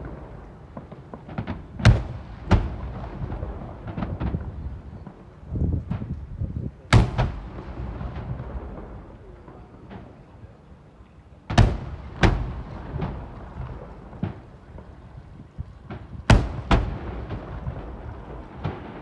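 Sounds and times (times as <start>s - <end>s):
fireworks shells booming: 0.0s - 10.7s, 11.4s - 19.0s
faint fireworks bangs: 0.0s - 19.0s.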